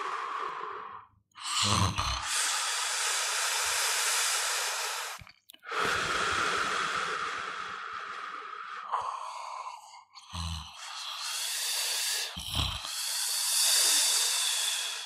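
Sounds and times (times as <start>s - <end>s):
heavy breathing: 0.0s - 15.0s.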